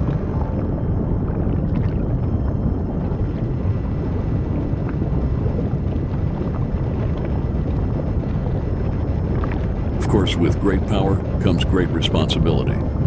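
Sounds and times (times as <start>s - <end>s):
steady low rumbling: 0.0s - 13.0s.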